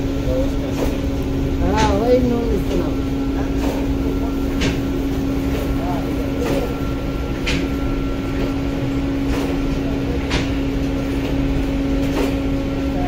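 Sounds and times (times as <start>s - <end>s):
bakery machinery humming: 0.0s - 13.0s.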